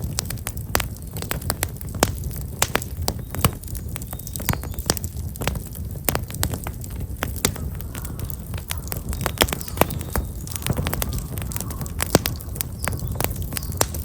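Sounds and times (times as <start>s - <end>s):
open fire crackling: 0.0s - 14.0s.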